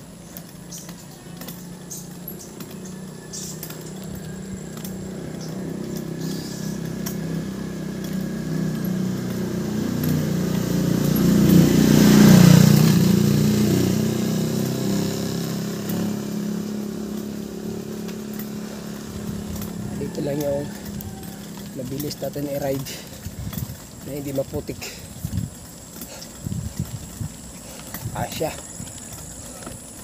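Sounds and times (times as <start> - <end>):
vehicle engine passing by: 0.0 - 30.0.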